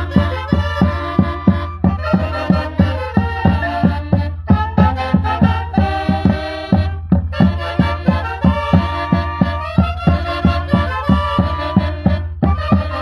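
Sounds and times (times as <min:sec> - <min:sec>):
bass drum beat: 0:00.0 - 0:13.0
saxophones playing melody: 0:00.0 - 0:13.0.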